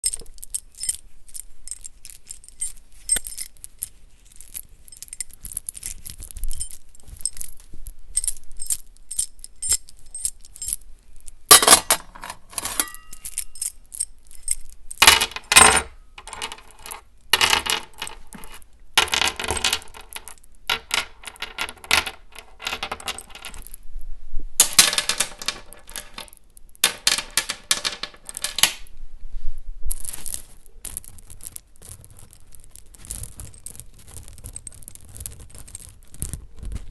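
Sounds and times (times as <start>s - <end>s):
small chain clinking and rattling: 0.0s - 23.8s, 24.6s - 28.9s, 29.9s - 36.9s.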